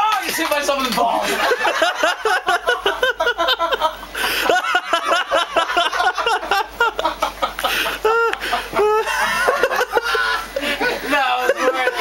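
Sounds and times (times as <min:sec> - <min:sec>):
men laughing: 0:00.3 - 0:12.0.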